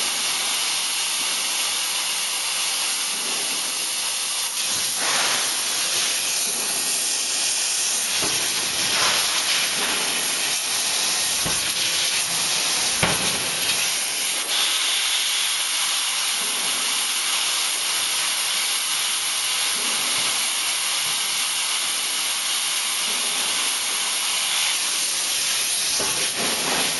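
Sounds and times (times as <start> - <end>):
loud steady hiss: 0.0 - 26.9.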